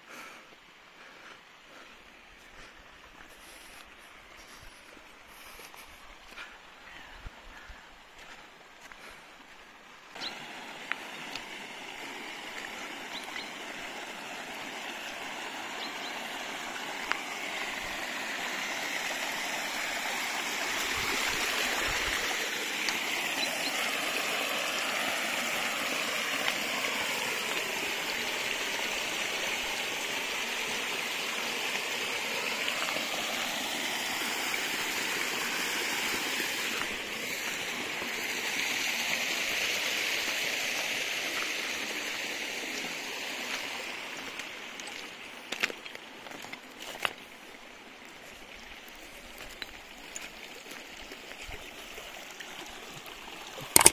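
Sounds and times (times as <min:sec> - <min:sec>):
stream splashing over rocks: 0:01.7 - 0:53.9.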